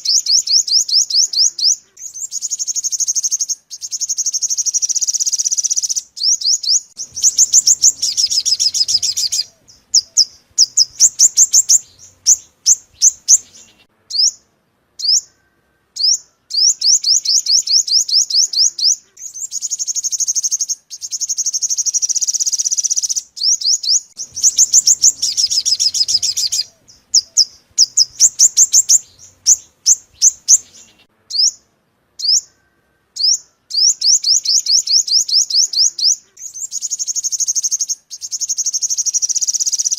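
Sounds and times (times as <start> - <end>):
sunbird song trills and sharp notes: 0.0 - 39.9.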